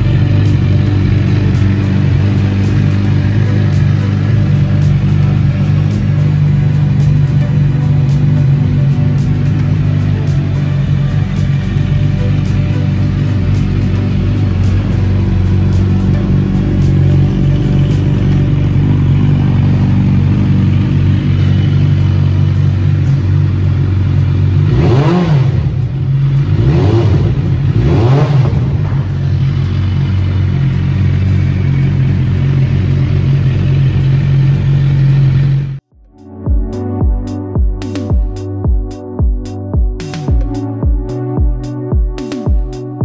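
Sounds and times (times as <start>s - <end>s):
motorcycle engine idling and revving: 0.0s - 35.9s, 36.6s - 43.0s.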